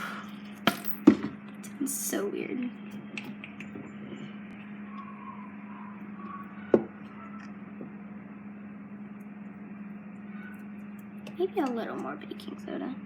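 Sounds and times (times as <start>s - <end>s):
low hum of room noise: 0.0s - 13.0s.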